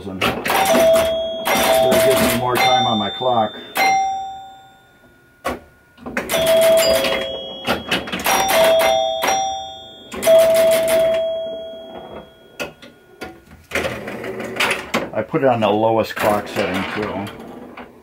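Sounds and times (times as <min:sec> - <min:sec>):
pinball chimes ringing: 0:00.0 - 0:17.9.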